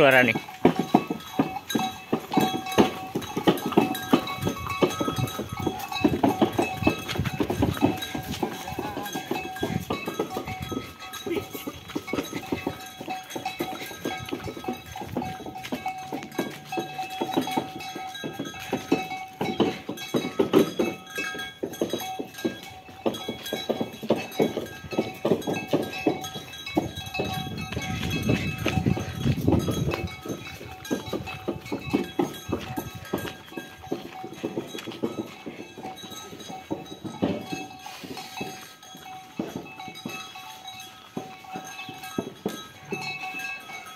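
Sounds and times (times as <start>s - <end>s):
cart clicks and knocks: 0.0s - 43.9s
ox hooves clopping on road: 0.0s - 43.9s.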